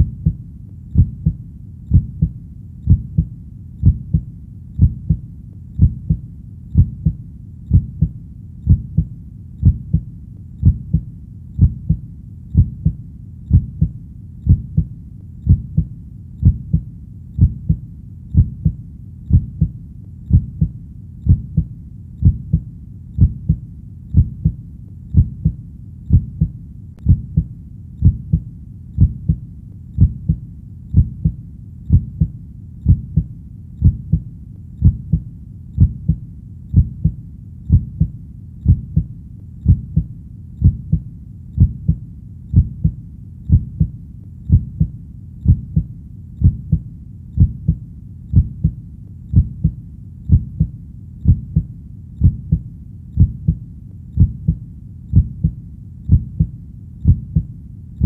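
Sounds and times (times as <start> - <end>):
heartbeat thumping: 0.0 - 29.4, 30.0 - 57.5
faint low background hum: 0.0 - 58.0.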